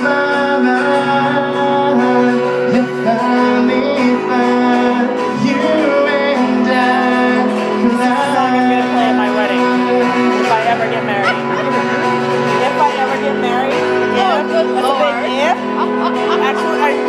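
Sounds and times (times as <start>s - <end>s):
person singing: 0.0s - 13.0s, 14.1s - 17.0s
acoustic guitar strumming: 0.0s - 17.0s.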